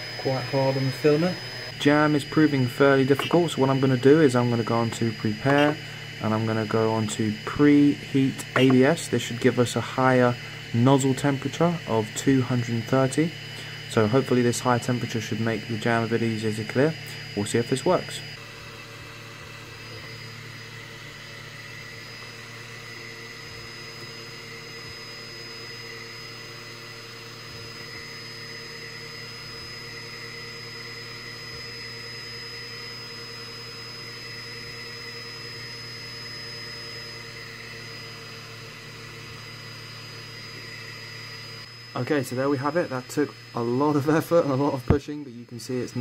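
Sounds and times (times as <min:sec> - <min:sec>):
cooling fans humming: 0:00.0 - 0:46.0
thin high whine: 0:00.0 - 0:46.0.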